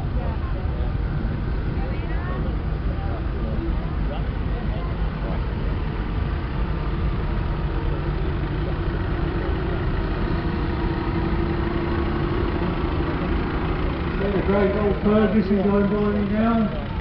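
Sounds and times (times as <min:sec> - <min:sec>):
tractor diesel engines running: 0:00.0 - 0:17.0.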